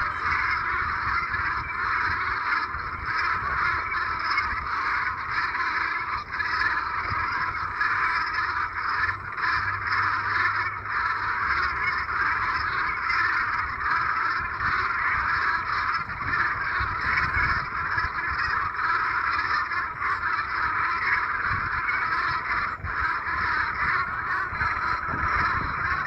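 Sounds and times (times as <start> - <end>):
geese honking: 0.0 - 26.0.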